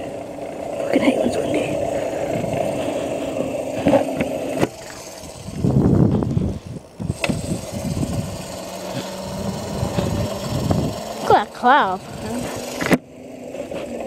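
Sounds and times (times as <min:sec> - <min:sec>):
wind buffeting microphone: 0:00.0 - 0:12.9
electric motor hum: 0:00.0 - 0:14.0
tyre noise on asphalt: 0:00.0 - 0:14.0.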